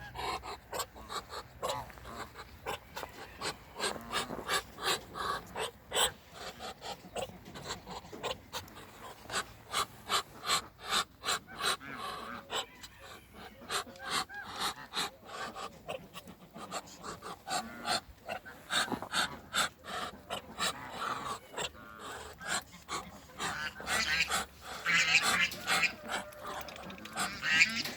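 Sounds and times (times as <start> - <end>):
duck calls: 0.0 - 12.8, 13.4 - 27.9
ducks hissing: 0.0 - 27.9.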